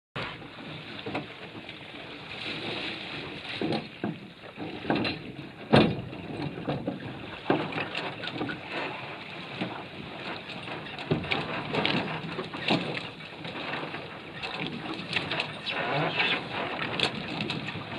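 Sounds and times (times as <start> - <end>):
knocks and thumps on hull: 0.2 - 17.9
water sloshing against hull: 0.2 - 17.9.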